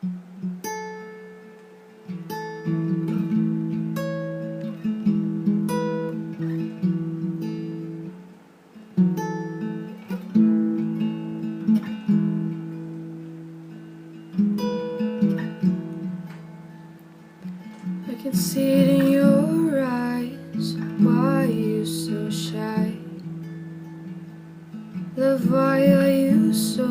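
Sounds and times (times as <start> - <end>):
acoustic guitar picked chords: 0.0 - 26.9.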